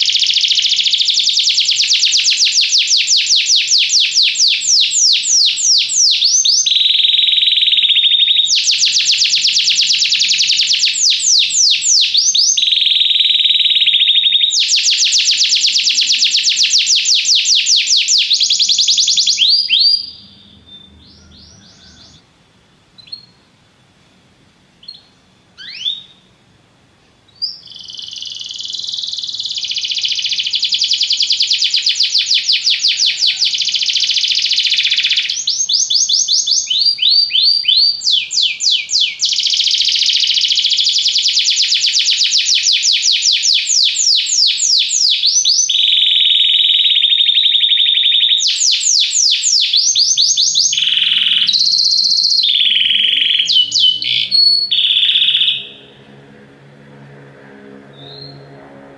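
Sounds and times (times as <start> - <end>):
canary singing: 0.0 - 22.3, 23.0 - 23.5, 24.8 - 26.3, 27.3 - 56.3, 57.8 - 58.8.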